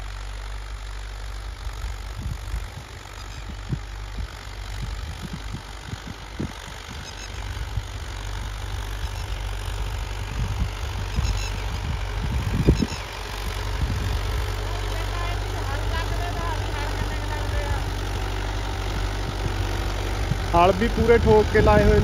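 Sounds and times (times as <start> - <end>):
tractor diesel engine: 0.0 - 22.0
wind buffeting microphone: 1.7 - 14.7, 15.9 - 22.0.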